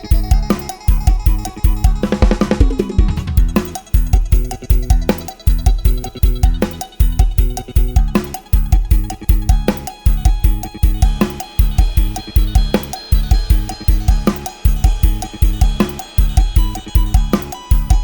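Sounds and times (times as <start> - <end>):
drum beat with heavy kick: 0.0 - 18.0
folk-pop backing music: 0.0 - 18.0.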